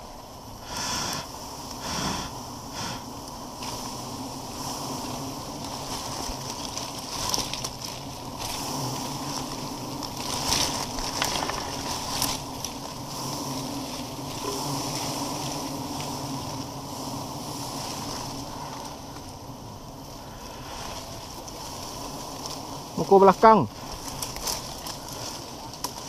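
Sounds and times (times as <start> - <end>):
bees buzzing: 0.0 - 26.0
leaves rustling: 0.0 - 26.0.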